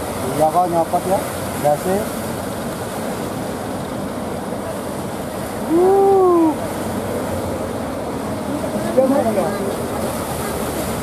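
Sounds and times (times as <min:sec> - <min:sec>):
breaking surf: 0:00.0 - 0:11.0.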